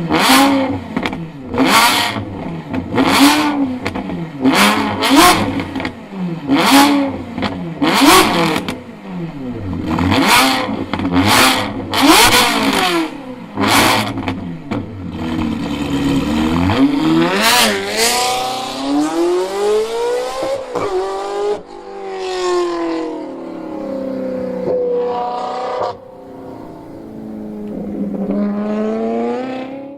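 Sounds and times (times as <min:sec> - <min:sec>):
sports car engine revving: 0:00.0 - 0:29.9.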